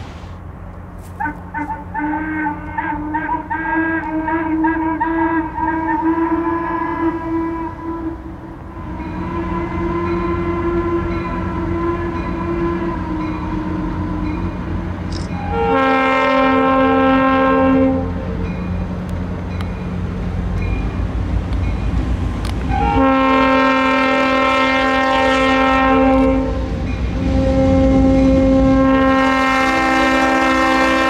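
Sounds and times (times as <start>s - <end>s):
train rumbling: 0.0s - 31.0s
locomotive horn blasts: 1.2s - 14.8s, 15.4s - 18.5s, 22.7s - 31.0s.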